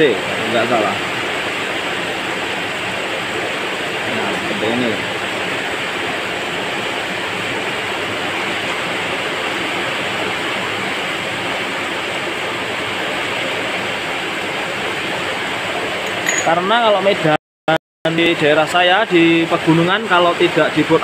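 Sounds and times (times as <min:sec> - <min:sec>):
steady rushing noise: 0:00.0 - 0:17.4.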